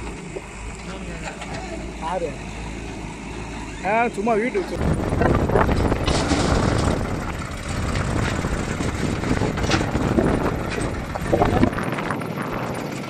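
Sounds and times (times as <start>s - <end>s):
backhoe loader engine running: 0.0s - 13.0s
tractor diesel engine under load: 0.0s - 13.0s.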